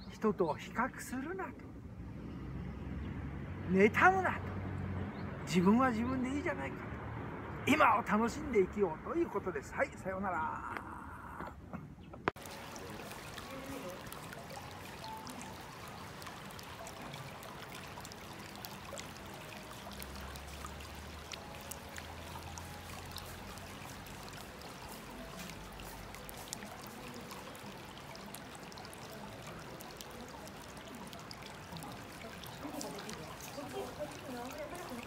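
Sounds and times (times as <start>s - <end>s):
water pouring and trickling: 2.0s - 10.9s, 12.3s - 35.0s.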